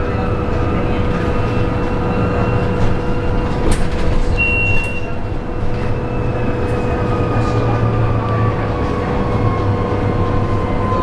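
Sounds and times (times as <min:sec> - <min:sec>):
trolleybus cabin rumble: 0:00.0 - 0:11.0.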